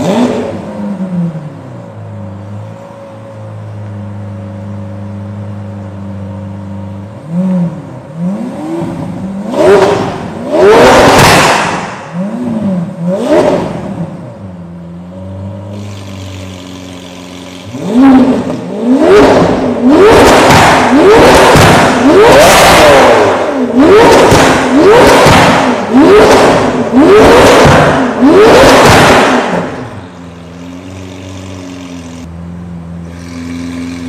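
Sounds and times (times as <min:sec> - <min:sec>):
sports car engine revving: 0:00.0 - 0:34.0.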